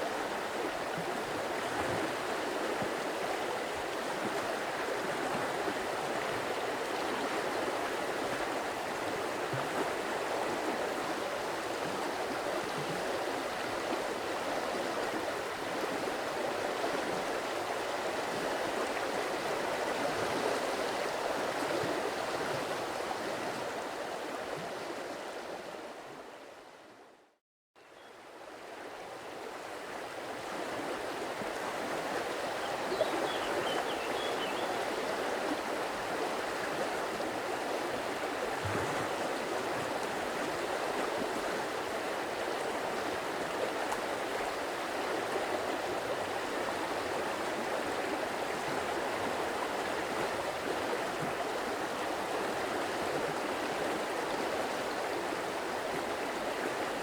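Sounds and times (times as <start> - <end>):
stream water flowing: 0.0 - 27.1, 27.8 - 57.0.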